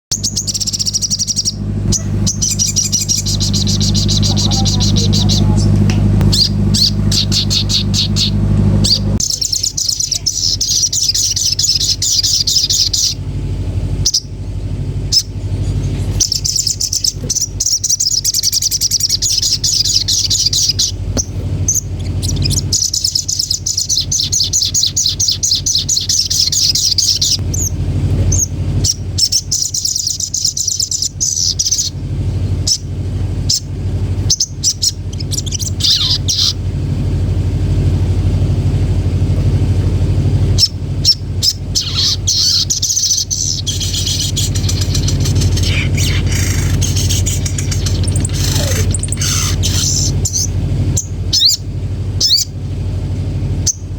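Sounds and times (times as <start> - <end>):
steady low hum: 0.0 - 53.9
bird chattering trills: 0.1 - 53.9.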